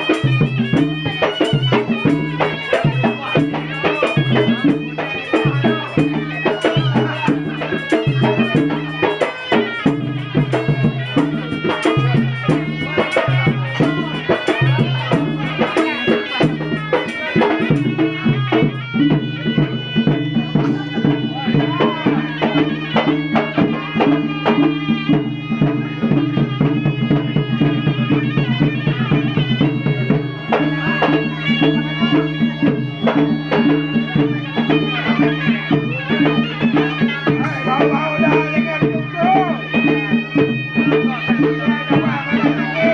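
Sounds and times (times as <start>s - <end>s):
drum strokes: 0.0s - 42.9s
nasal oboe melody: 0.0s - 42.9s.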